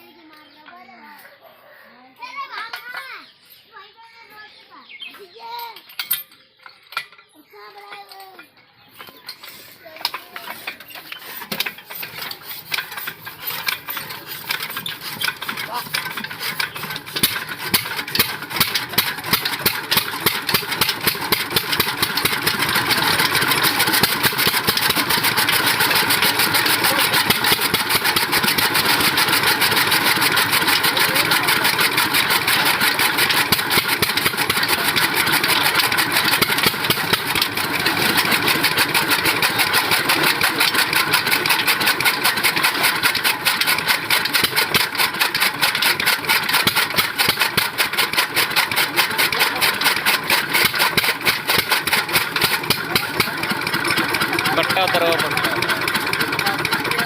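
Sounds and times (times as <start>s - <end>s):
diesel engine starting up: 9.1s - 57.0s.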